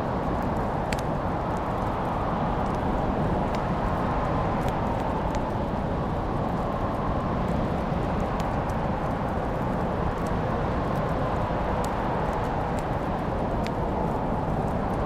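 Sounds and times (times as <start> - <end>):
fire crackles: 0.0 - 15.0
log fire rushing: 0.0 - 15.0.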